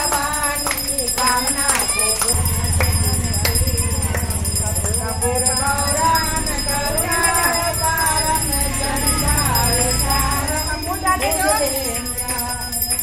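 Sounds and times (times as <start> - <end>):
women singing a devotional song: 0.0 - 13.0.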